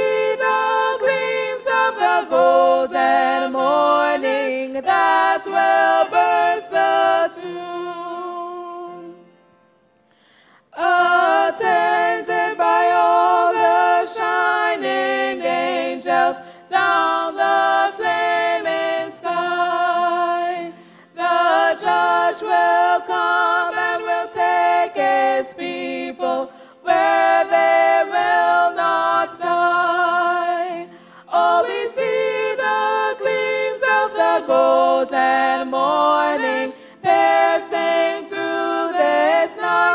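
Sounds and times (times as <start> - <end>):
two women singing unaccompanied: 0.0 - 9.4, 10.6 - 39.9.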